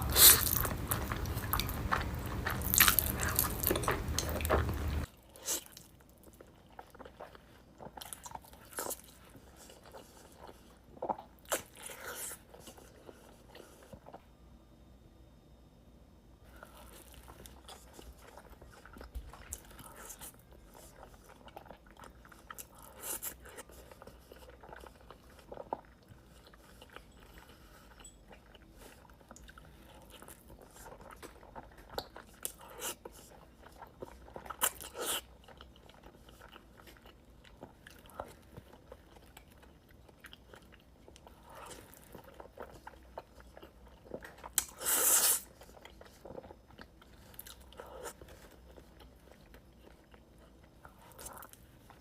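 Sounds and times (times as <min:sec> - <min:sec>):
chewing and biting noodles: 0:00.0 - 0:14.2, 0:16.6 - 0:52.0.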